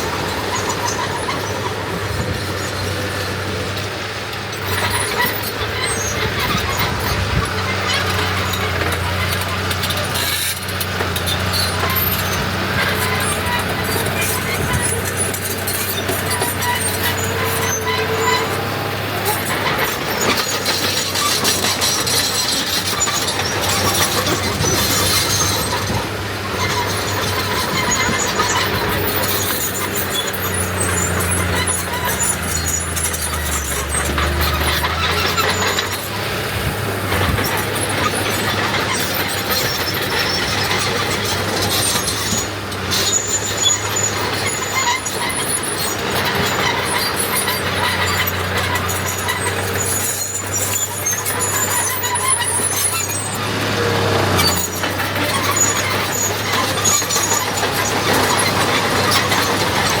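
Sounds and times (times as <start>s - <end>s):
high-pitched metallic squeals: 0.0s - 3.3s, 4.6s - 60.0s
machinery engine hum: 0.0s - 60.0s.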